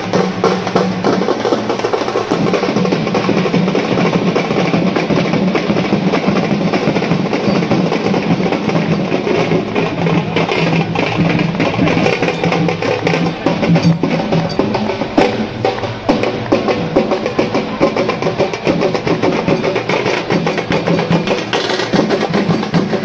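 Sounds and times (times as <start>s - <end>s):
drum band playing fast beat: 0.0s - 23.0s.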